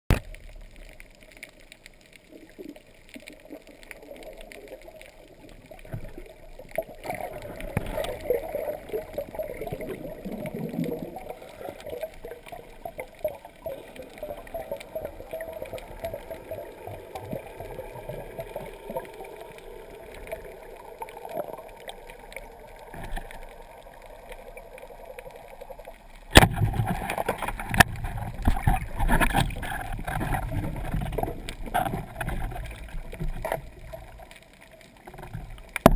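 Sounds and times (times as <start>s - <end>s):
underwater gurgling: 0.1s - 35.9s.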